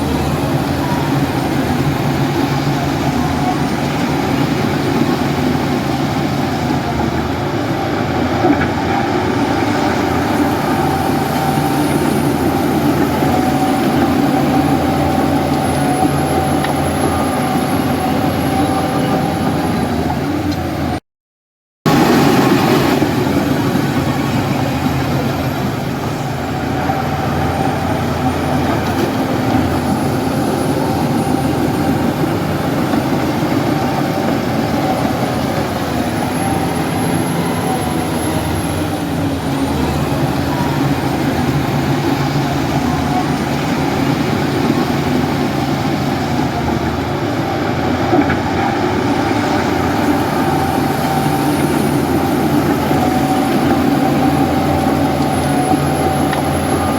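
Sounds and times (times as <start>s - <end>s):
diesel engine running: 0.0s - 21.0s, 21.9s - 56.9s.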